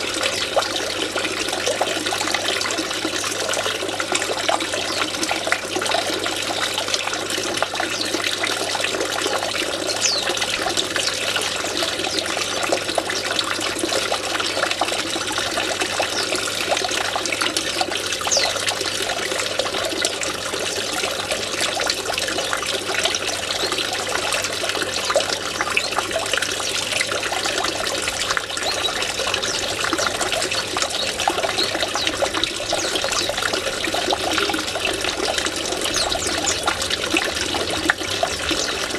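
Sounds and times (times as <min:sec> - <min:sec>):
water trickling in fountain: 0:00.0 - 0:38.9.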